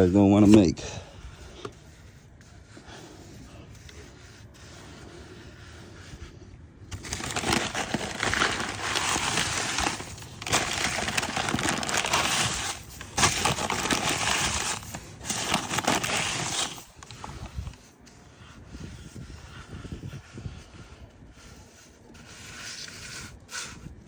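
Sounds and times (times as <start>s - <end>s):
rough crinkling and scrubbing: 0.0s - 24.0s.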